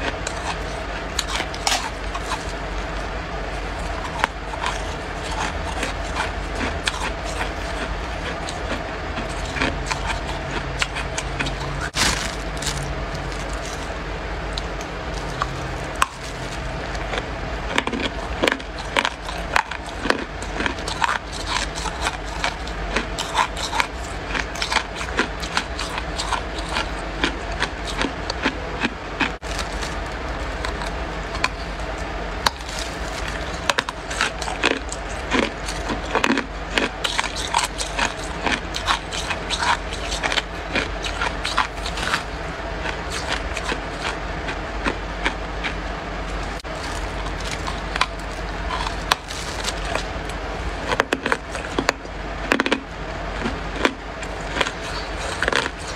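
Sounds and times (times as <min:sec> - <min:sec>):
chewing ice crunching: 0:00.0 - 0:55.9.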